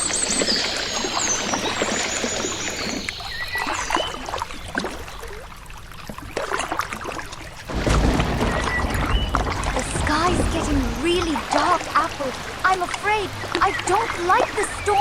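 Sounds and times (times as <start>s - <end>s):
water splashing around rowed boat: 0.0s - 15.0s.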